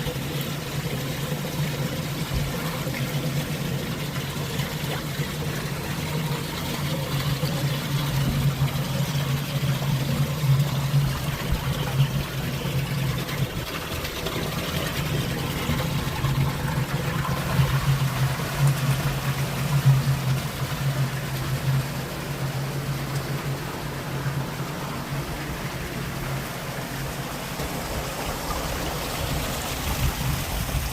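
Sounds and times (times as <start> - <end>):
low motor hum: 0.0 - 30.9
running water: 0.0 - 30.9.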